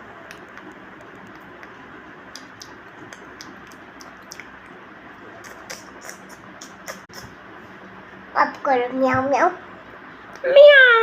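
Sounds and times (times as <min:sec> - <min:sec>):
steady room noise: 0:00.0 - 0:11.0.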